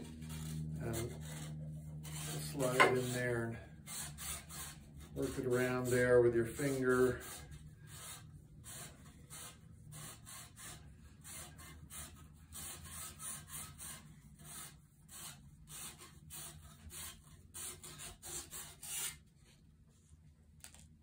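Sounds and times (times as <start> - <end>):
sandpaper scratching inside tube: 0.0 - 19.2.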